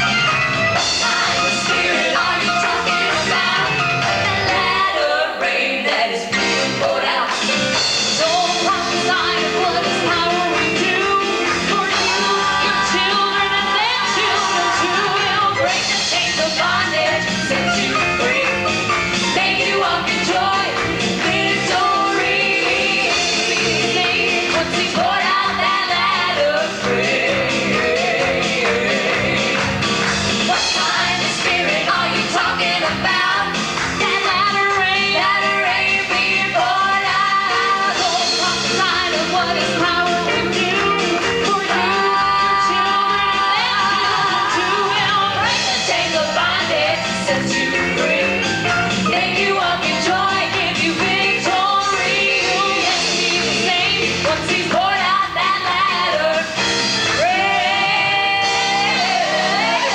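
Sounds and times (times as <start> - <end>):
backing music with bass line: 0.0 - 59.9
women singing together: 0.8 - 59.9.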